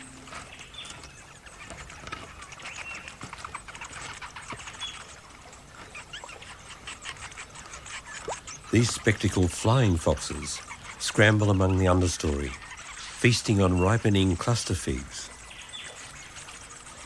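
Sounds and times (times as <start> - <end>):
bats rustling through foliage: 0.0 - 17.0.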